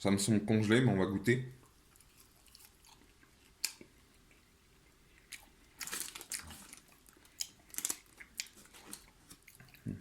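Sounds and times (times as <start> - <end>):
person chewing crunchy fries: 1.7 - 10.0.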